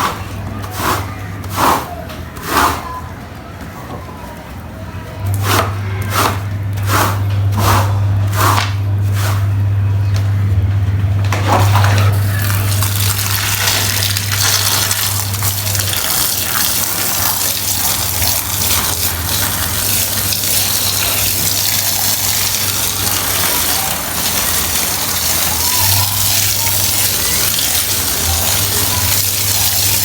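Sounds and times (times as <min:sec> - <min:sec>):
low motor hum: 0:04.4 - 0:30.0.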